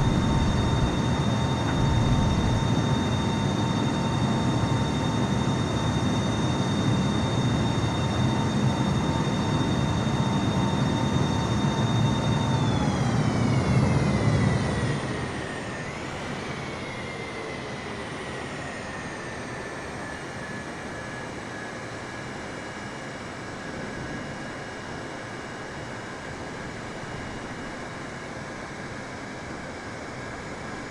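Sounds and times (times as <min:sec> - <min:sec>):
jet airliner engines passing: 0:00.0 - 0:30.9.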